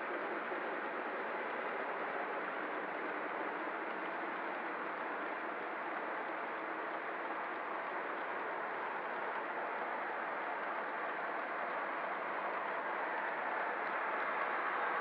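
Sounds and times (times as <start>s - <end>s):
model trains rolling on metal track: 0.0s - 15.0s.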